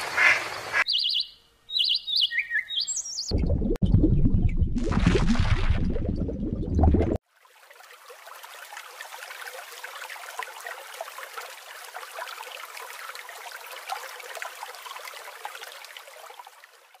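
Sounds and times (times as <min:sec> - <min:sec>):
water trickling: 0:03.3 - 0:17.0.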